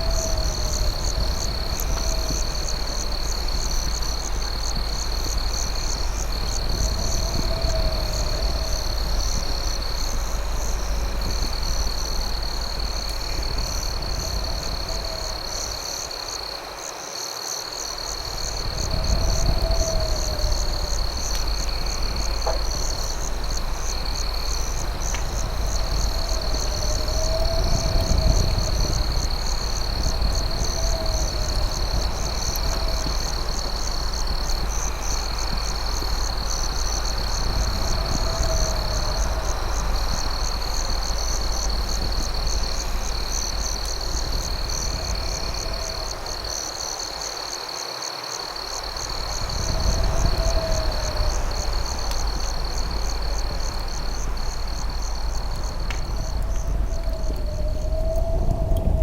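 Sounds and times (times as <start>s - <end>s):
steady low rumble: 0.0s - 16.4s, 18.0s - 46.8s, 48.9s - 59.0s
crickets trilling: 0.0s - 59.0s.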